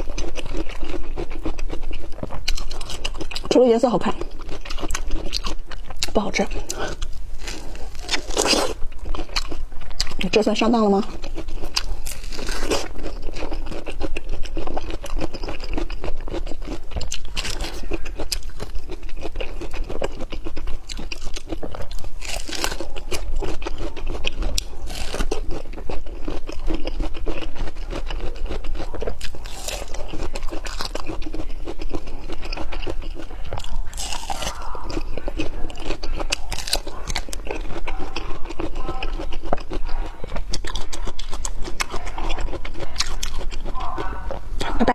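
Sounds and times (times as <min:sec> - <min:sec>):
crunchy bites of fruit: 0:00.0 - 0:10.4, 0:11.0 - 0:44.8
wet chewing: 0:00.0 - 0:44.9.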